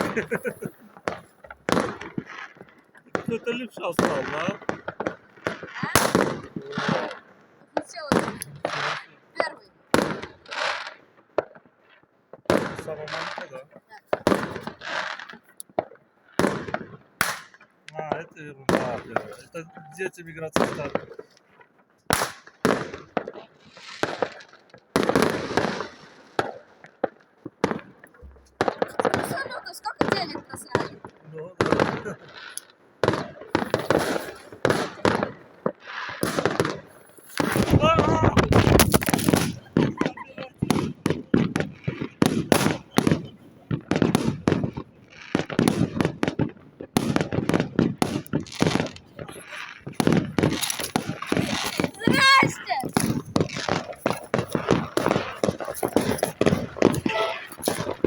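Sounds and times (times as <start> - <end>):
hissing crackle: 0.0 - 11.6, 18.6 - 58.0
firecrackers banging: 0.0 - 58.0.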